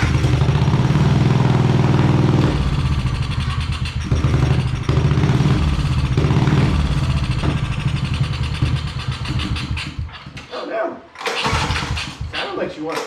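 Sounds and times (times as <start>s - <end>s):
small engine running unevenly: 0.0s - 10.4s, 11.2s - 12.4s.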